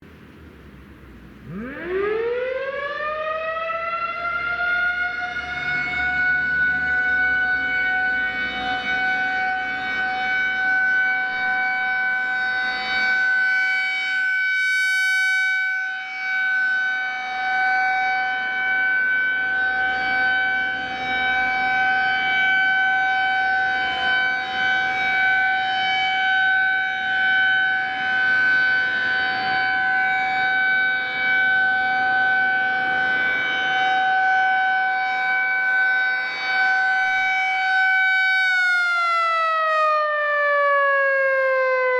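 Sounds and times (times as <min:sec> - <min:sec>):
rotating warning siren steady tone: 0:01.4 - 0:41.9.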